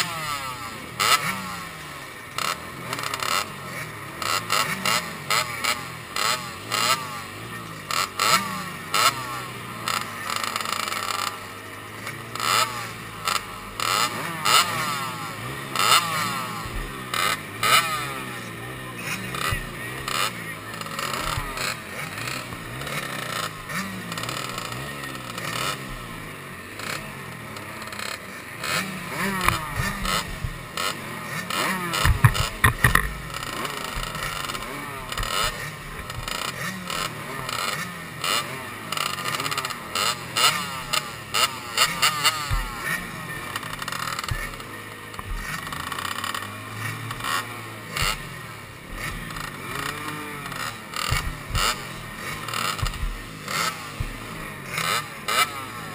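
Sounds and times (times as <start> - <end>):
dirt bikes idling and revving: 0.0 - 55.9.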